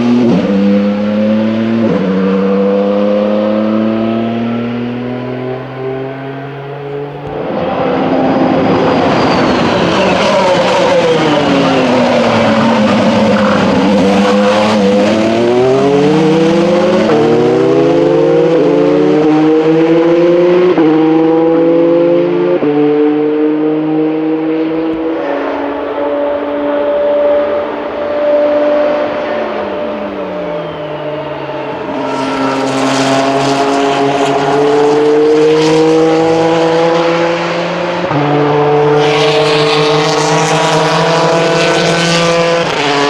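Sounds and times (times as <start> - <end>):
race car engine passing: 0.0 - 43.0.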